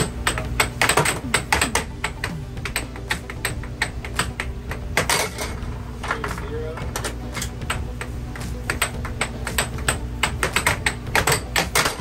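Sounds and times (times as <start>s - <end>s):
low hum of air blower: 0.0s - 12.0s
plastic puck cracking against mallets: 0.0s - 12.0s.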